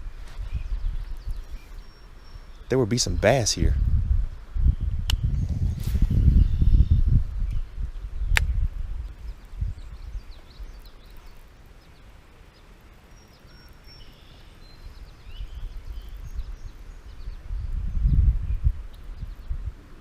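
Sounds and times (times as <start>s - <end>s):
high chirps of birds or frogs: 0.6s - 3.6s, 6.2s - 19.7s.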